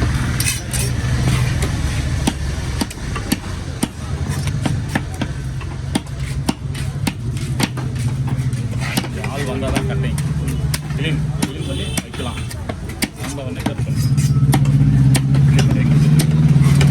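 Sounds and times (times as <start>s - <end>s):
knife chopping fish on block: 0.6s - 16.9s.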